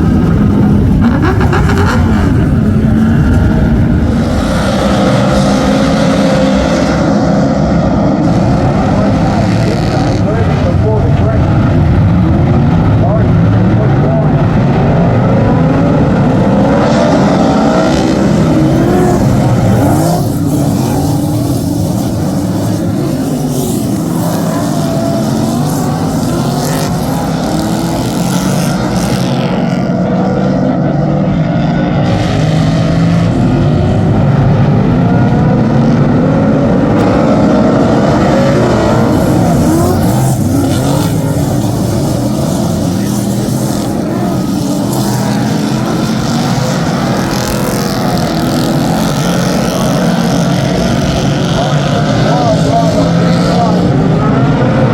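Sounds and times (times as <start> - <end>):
race car engines running hard: 0.0 - 54.9.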